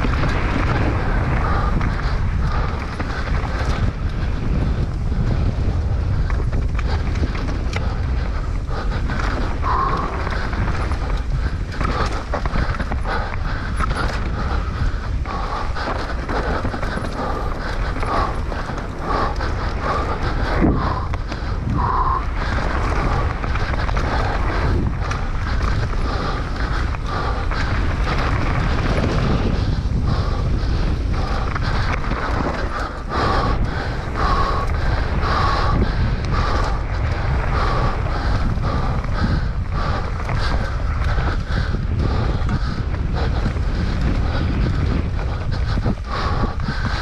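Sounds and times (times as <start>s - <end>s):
bike rattling over rough ground: 0.0s - 47.0s
wind rumble on microphone: 0.0s - 47.0s.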